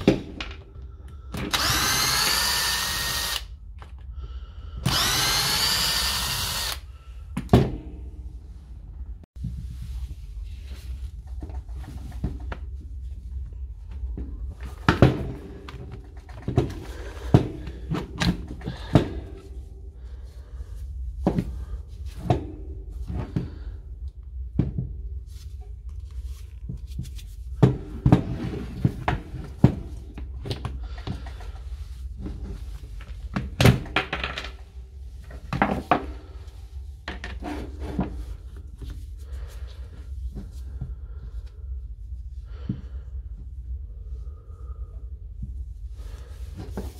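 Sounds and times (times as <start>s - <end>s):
steady low hum: 0.0s - 33.6s, 34.6s - 46.9s.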